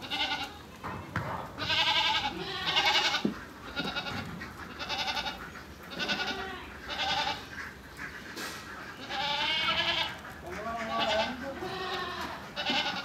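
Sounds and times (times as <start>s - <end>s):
goats bleating: 0.0s - 8.1s, 8.8s - 13.0s.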